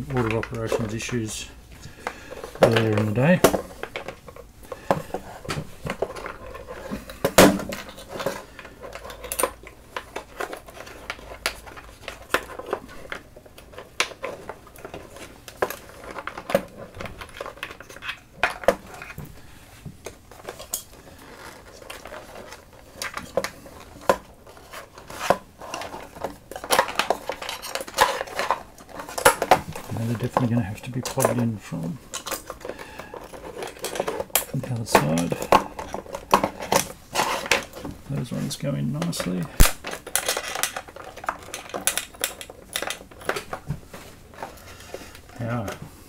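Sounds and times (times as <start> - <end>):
cable plugs clicking and clinking: 0.0 - 19.3, 25.1 - 43.8.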